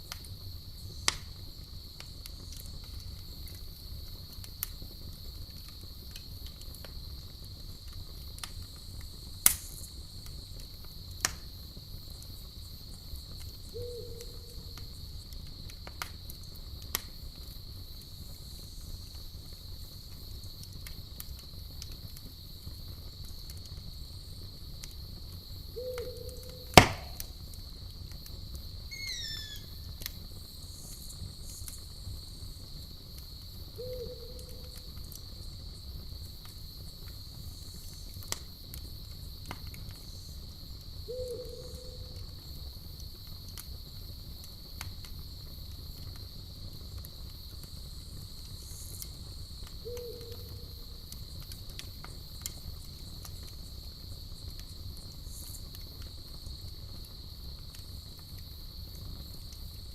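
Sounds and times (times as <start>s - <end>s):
campfire crackling: 0.0s - 59.9s
crickets chirping: 0.1s - 59.9s.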